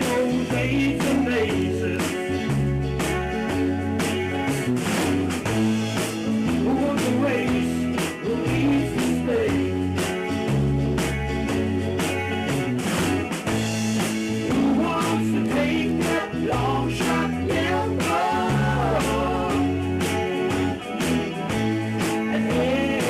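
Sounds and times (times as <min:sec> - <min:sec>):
bass line: 0:00.0 - 0:23.0
drum beat: 0:00.0 - 0:23.0
electric guitar: 0:00.0 - 0:23.0.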